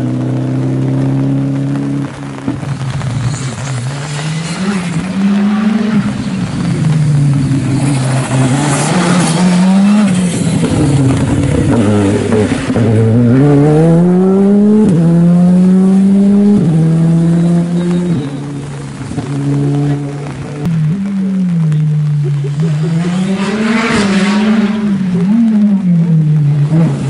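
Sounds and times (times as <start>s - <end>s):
rally car engine passing: 0.0s - 27.0s
tyres hissing on wet road: 0.0s - 27.0s.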